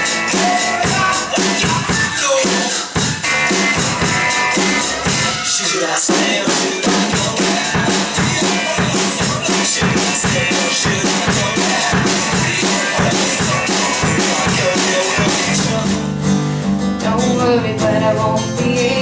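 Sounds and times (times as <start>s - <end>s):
fast drum beat: 0.0s - 16.2s
instruments underneath: 0.0s - 16.5s.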